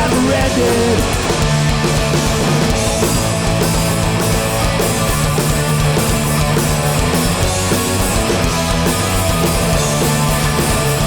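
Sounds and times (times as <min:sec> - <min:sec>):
punk band playing loud: 0:00.0 - 0:11.0.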